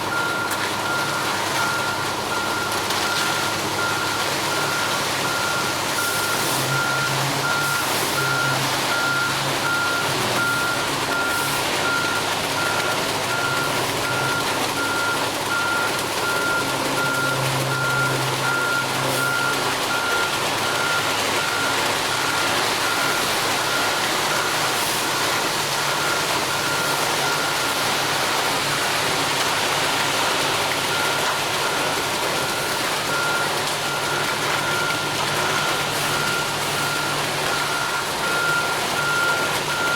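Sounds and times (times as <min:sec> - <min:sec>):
truck backup alarm beeping: 0:00.0 - 0:39.9
truck engine running: 0:00.0 - 0:39.9.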